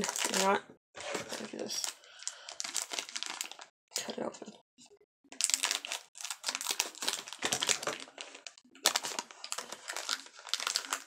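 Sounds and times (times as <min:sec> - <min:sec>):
plastic wrapper crinkling: 0:00.0 - 0:03.7, 0:05.4 - 0:11.0.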